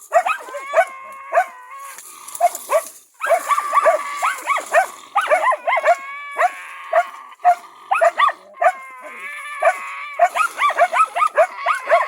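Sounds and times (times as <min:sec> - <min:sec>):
dogs barking in high yelps: 0:00.0 - 0:12.0
drawn-out whining cry: 0:00.3 - 0:02.6, 0:03.2 - 0:12.0.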